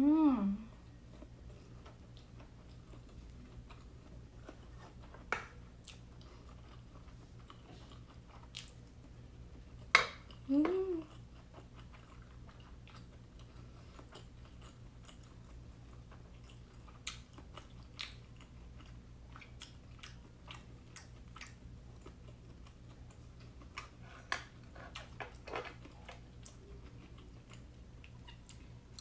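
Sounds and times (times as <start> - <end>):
steady low hum: 0.0 - 29.0
person chewing food: 0.7 - 29.0.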